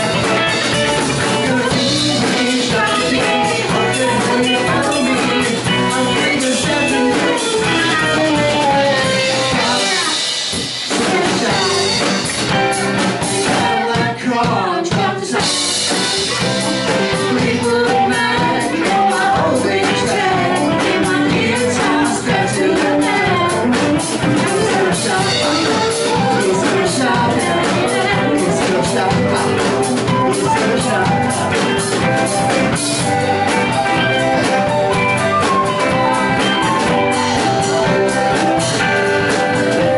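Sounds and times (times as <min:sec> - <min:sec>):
bass guitar: 0:00.0 - 0:39.9
drum kit: 0:00.0 - 0:39.9
electric guitars: 0:00.0 - 0:39.9
person singing: 0:00.0 - 0:39.9.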